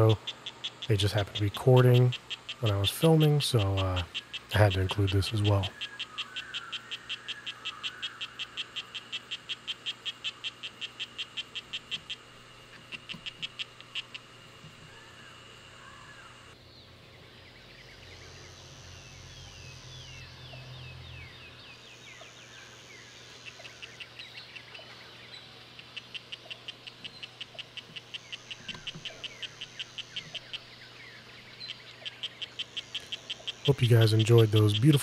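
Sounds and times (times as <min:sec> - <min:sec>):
frogs chirping: 0:00.0 - 0:35.0.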